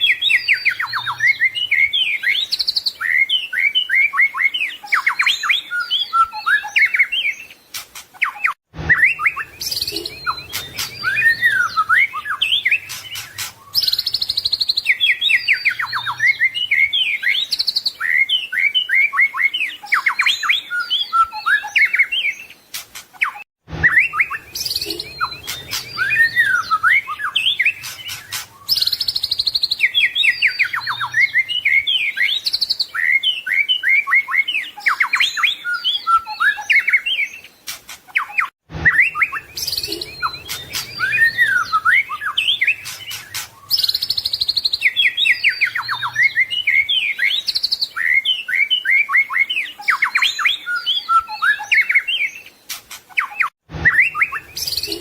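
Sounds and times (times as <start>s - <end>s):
bird singing whistled phrases and trills: 0.0s - 55.0s.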